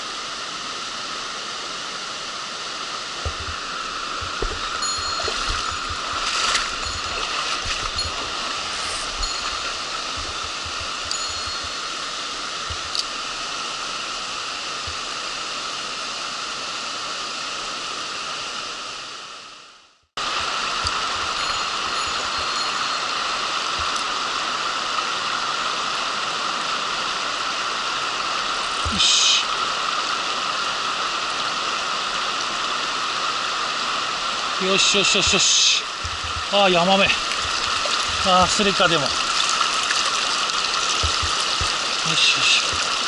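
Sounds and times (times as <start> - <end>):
stream water running over rocks: 0.0 - 43.0.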